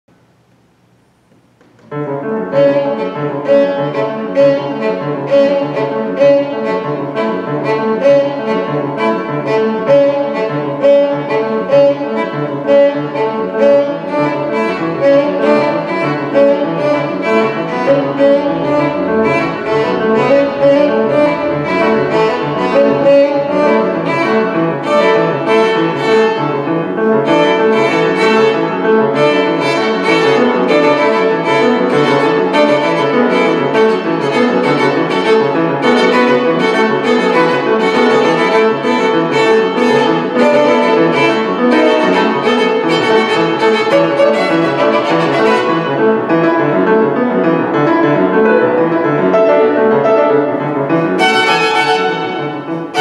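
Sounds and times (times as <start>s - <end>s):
piano repeated notes: 1.6s - 53.0s
violin sustained lines: 2.6s - 46.6s, 48.5s - 53.0s.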